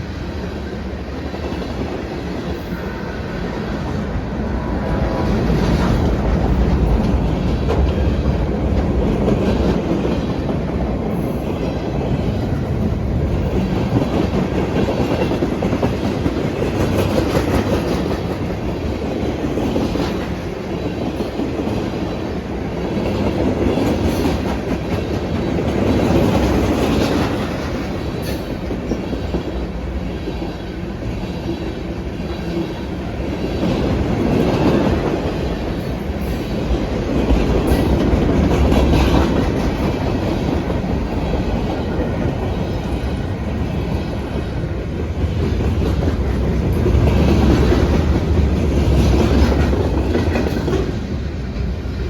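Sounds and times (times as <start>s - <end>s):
freight train cars rolling: 0.0s - 52.0s.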